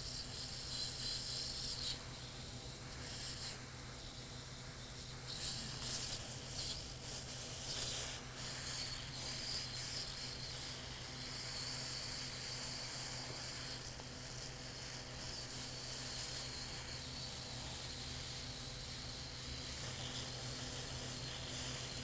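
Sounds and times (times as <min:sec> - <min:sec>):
hot gas hissing from nozzle: 0:00.0 - 0:22.0.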